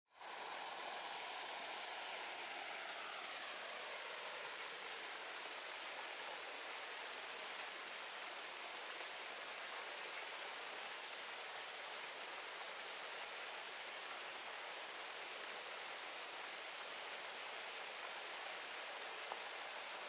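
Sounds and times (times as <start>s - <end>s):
waterfalls pouring into pool: 0.1s - 20.0s.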